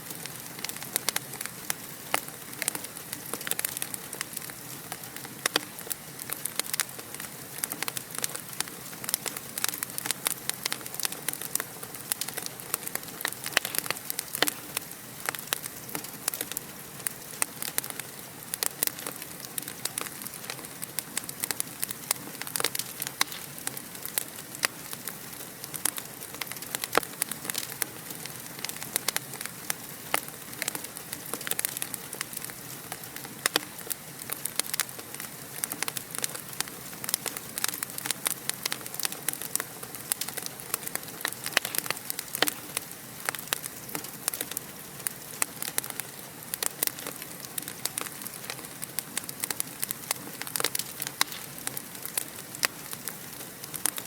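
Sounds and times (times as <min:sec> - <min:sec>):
fire crackling and popping: 0:00.0 - 0:54.0
steady hiss: 0:00.0 - 0:54.0.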